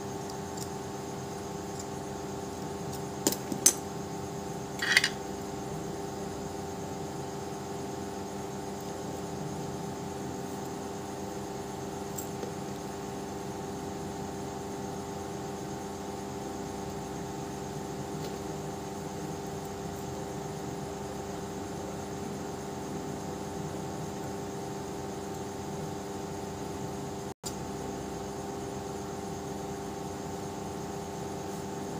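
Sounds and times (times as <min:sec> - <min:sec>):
mechanical droning hum: 0:00.0 - 0:31.9.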